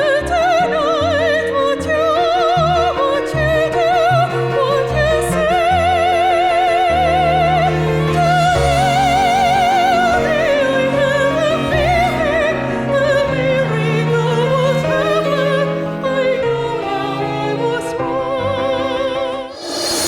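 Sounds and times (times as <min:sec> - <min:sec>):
cello: 0:00.0 - 0:20.0
piano: 0:00.0 - 0:20.0
violins: 0:00.0 - 0:20.0.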